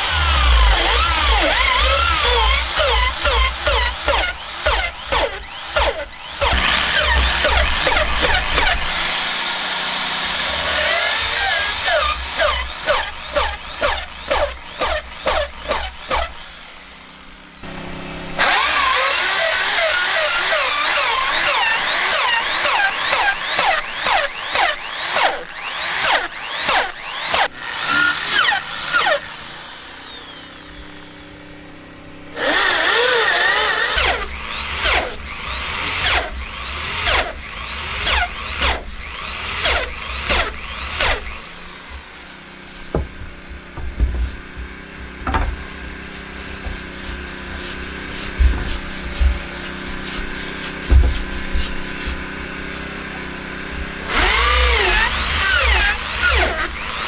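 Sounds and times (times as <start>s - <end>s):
power drill boring into wood: 0.0s - 57.0s.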